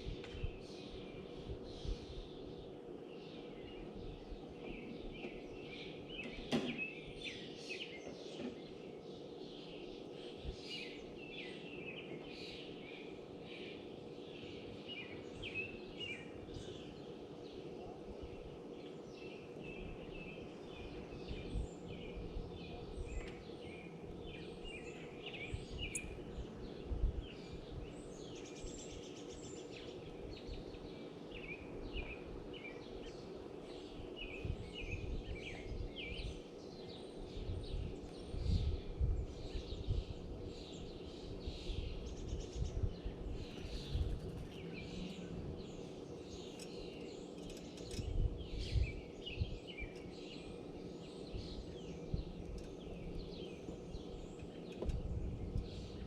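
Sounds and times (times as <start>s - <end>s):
songbirds chirping: 0.0s - 56.0s
steady low hum: 8.6s - 56.0s.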